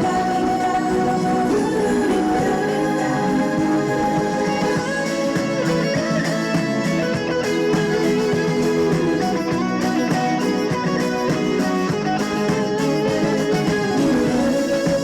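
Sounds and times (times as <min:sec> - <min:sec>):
instrumental song with steady beat: 0:00.0 - 0:15.0.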